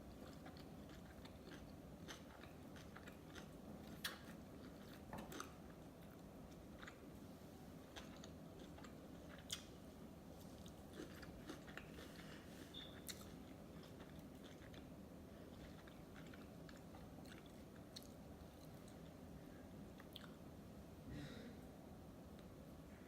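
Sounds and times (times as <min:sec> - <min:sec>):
close-up chewing: 0:00.0 - 0:19.3.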